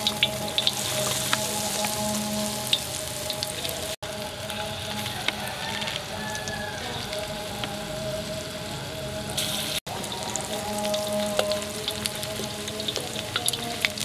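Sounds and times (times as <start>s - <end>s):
meat deep-frying in hot oil: 0.0s - 14.0s.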